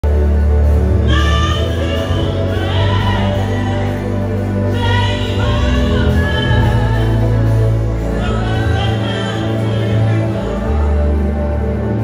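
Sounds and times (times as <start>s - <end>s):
electric bass line: 0.0s - 12.0s
live band playing: 0.0s - 12.0s
woman singing: 1.0s - 11.7s.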